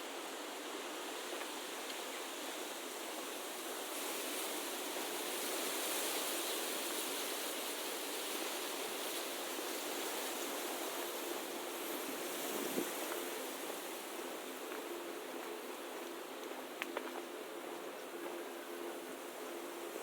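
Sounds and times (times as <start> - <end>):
outdoor ambience hiss: 0.0 - 20.0.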